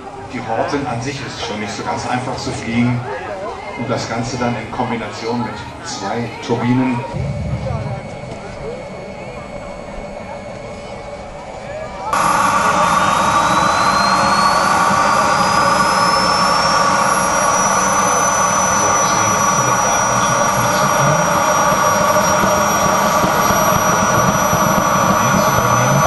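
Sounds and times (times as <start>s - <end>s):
high turbine whine: 0.0s - 26.0s
jet noise: 3.9s - 26.0s.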